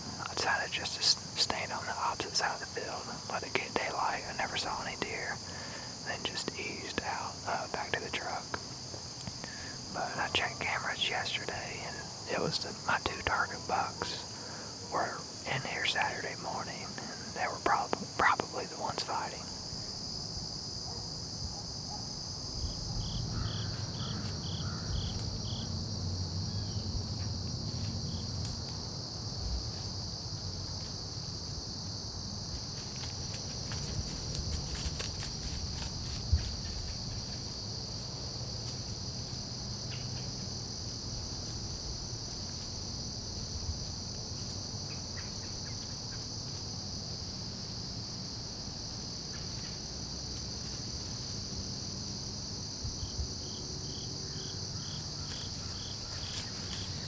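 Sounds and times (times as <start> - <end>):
insects buzzing: 0.0 - 57.0.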